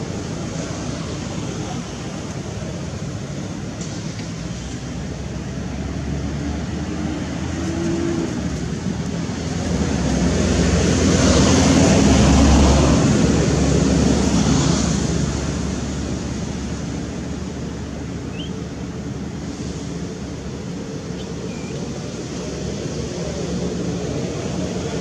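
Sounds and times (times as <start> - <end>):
engine hum: 0.0 - 25.0.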